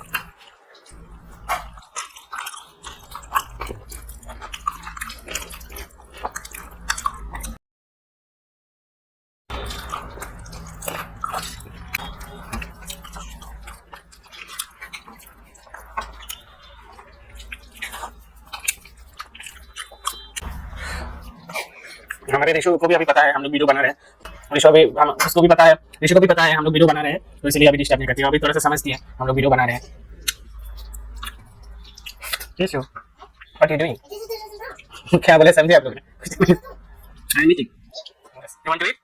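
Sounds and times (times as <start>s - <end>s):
people chewing and eating: 0.0s - 7.6s, 9.5s - 39.0s.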